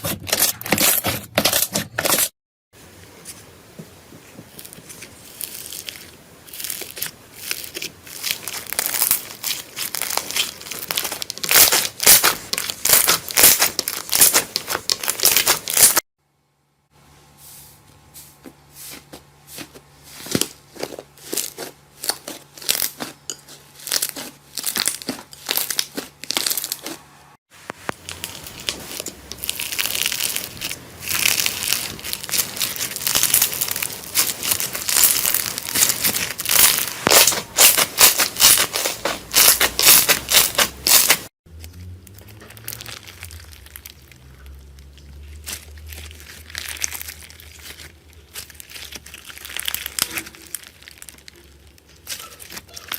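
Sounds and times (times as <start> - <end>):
slime crackling: 4.5 - 16.0, 20.3 - 27.0, 27.7 - 52.9.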